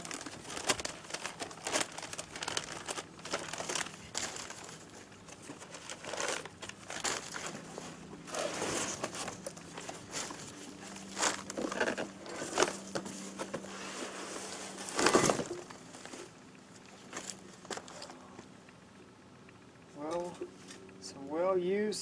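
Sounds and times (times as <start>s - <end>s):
newspaper and cardboard crinkling: 0.0s - 18.2s.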